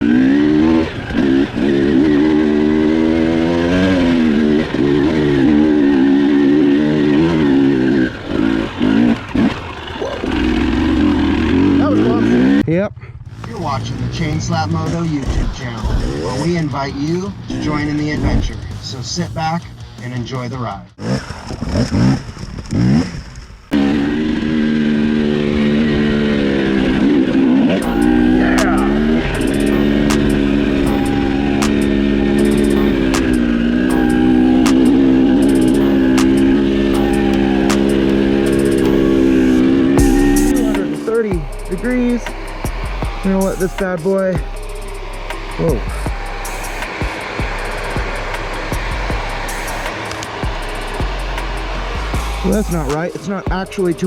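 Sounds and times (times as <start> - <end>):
dirt bike engine revving: 0.0 - 20.0, 20.9 - 54.0.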